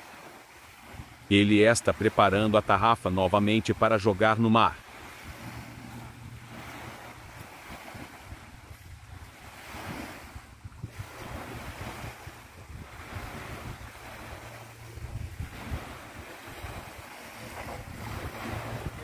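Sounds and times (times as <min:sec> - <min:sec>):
wind rumbling on microphone: 0:00.0 - 0:01.4, 0:04.8 - 0:19.0
small waves breaking on beach: 0:00.0 - 0:19.0.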